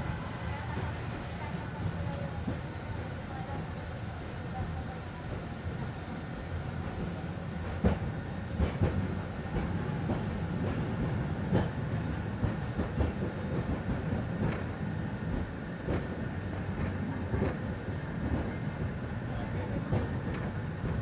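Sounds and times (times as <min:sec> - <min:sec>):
tram rumbling on rails: 0:00.0 - 0:21.0.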